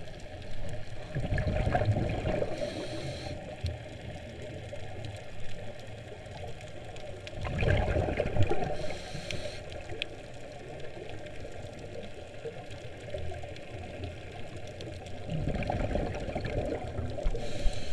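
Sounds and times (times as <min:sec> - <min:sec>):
underwater bubbles gurgling: 0:00.0 - 0:17.9.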